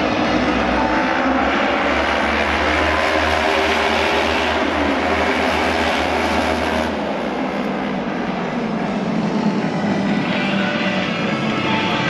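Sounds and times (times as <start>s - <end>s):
racing motorcycle engines droning: 0.0s - 12.0s.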